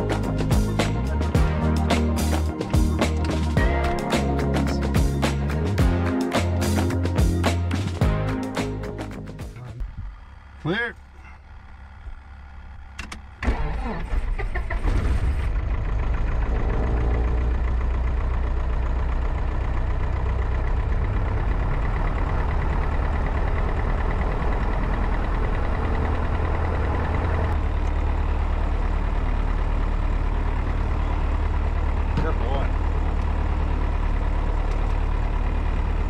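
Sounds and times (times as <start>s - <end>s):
aircraft engine cranking and idling: 0.0s - 36.0s.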